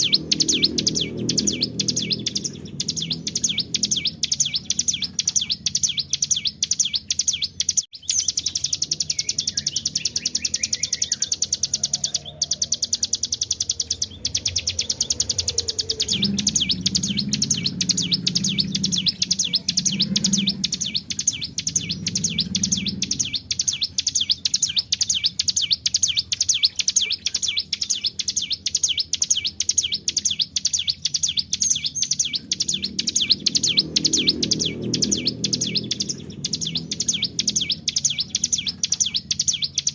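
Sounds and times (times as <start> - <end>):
bird singing rapid trill: 0.0 - 39.9.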